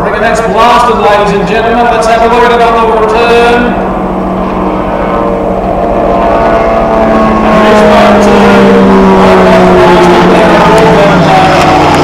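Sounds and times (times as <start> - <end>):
boat engine running hard: 0.0 - 12.0.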